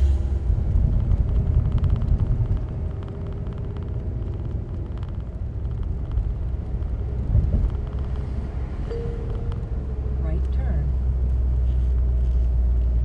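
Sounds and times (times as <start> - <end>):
car engine hum: 0.0 - 13.0
wind and road noise: 0.0 - 13.0.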